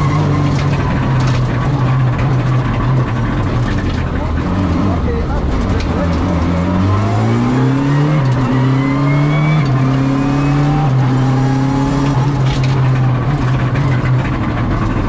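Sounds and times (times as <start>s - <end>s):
rally car engine revving: 0.0s - 15.0s
sharp cracks at gear shifts: 0.0s - 15.0s.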